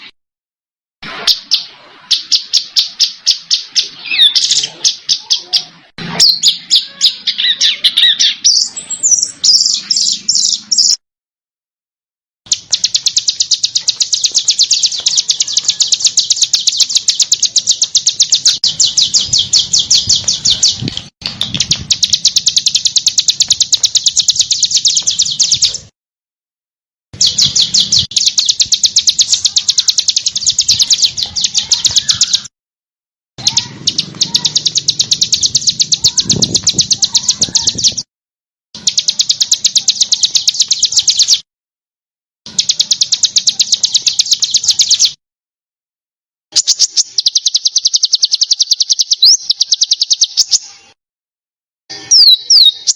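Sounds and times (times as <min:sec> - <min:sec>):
songbird rapid rattling song: 0:01.1 - 0:11.0, 0:12.5 - 0:25.9, 0:27.2 - 0:32.5, 0:33.4 - 0:38.1, 0:38.8 - 0:41.4, 0:42.5 - 0:45.2, 0:46.5 - 0:50.7.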